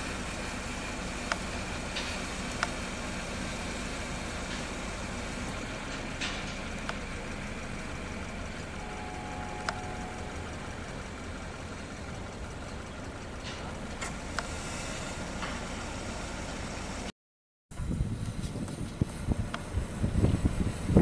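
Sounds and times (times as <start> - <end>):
low engine-like rumble: 0.0 - 17.1, 17.7 - 21.0.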